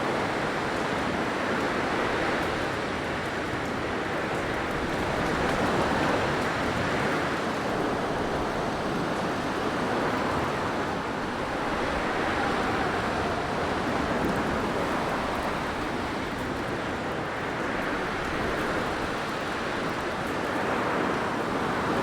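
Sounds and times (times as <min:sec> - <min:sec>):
blizzard wind blowing: 0:01.4 - 0:22.0.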